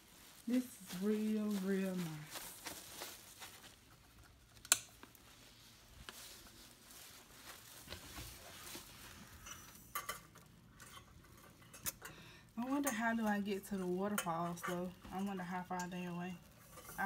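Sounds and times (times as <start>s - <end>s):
curtain rustling: 0.0s - 17.0s.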